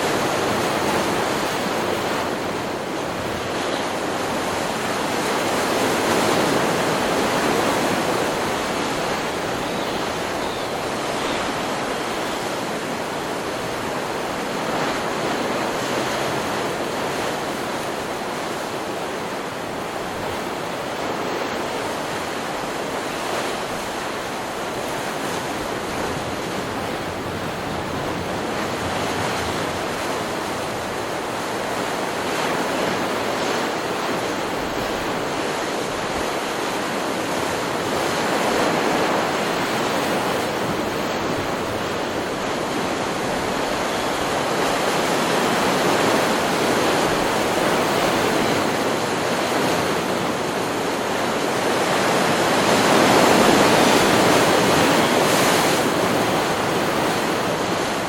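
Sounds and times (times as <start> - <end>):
ocean waves breaking and washing: 0.0 - 58.0.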